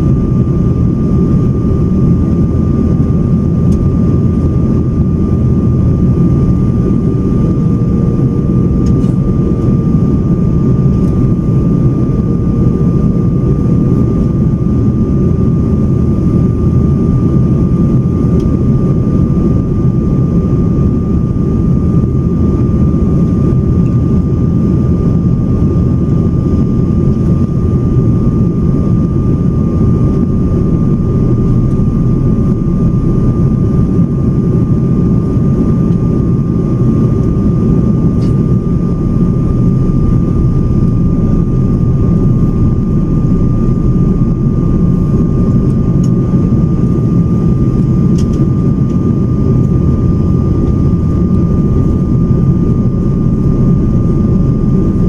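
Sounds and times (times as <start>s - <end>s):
high-pitched engine whine: 0.0s - 55.0s
low rumble of engines and airflow: 0.0s - 55.0s.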